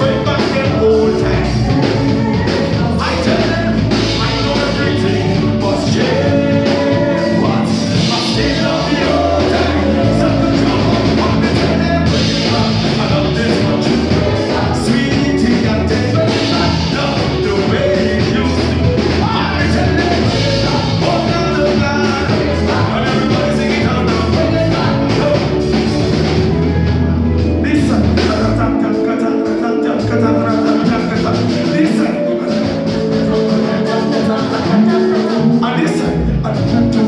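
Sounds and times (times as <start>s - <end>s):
man singing into microphone: 0.0s - 25.9s, 27.5s - 37.0s
bass line: 0.0s - 37.0s
drums: 0.0s - 37.0s
electric guitar: 0.0s - 37.0s.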